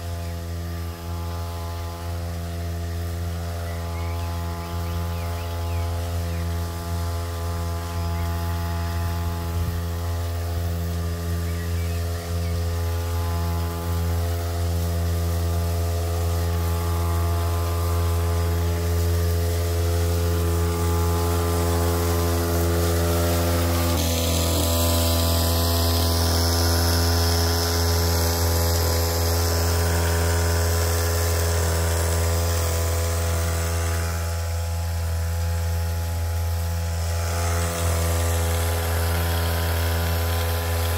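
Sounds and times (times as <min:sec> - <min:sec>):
electric pump buzzing: 0:00.0 - 0:40.9
spray nozzle hiss: 0:00.0 - 0:40.9.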